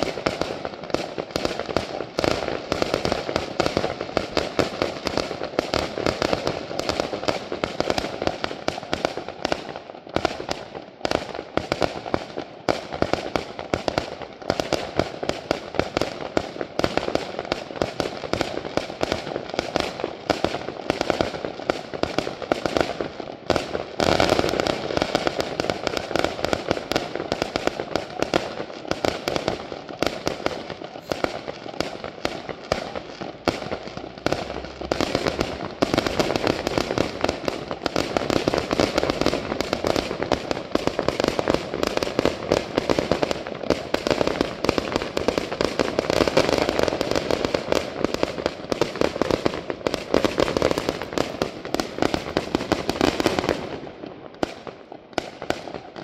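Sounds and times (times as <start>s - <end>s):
fireworks bangs and crackle: 0.0s - 56.0s.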